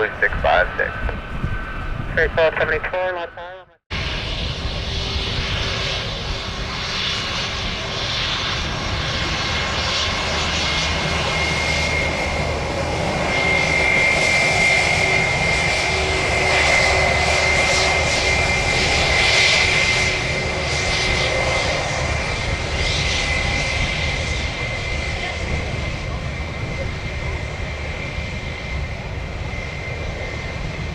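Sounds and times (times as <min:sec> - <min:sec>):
jet engines at takeoff power: 0:00.0 - 0:30.9.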